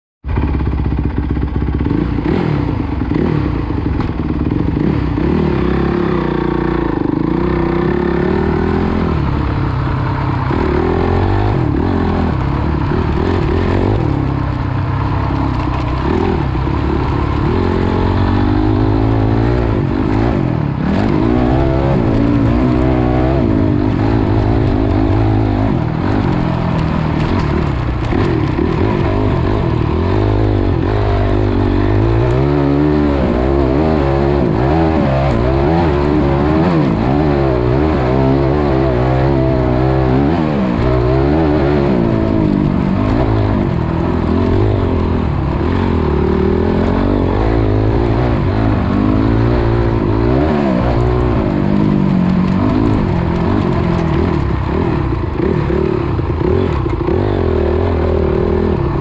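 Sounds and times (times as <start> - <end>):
dirt bike engine revving: 0.3 - 59.0.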